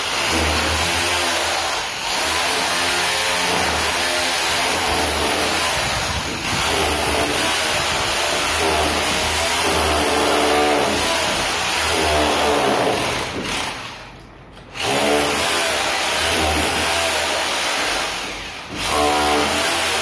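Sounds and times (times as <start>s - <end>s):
hammer drill into brick: 0.0s - 20.0s.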